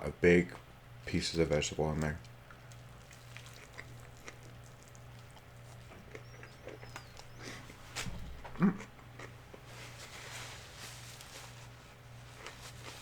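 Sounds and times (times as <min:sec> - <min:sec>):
person chewing food: 0:02.2 - 0:13.0.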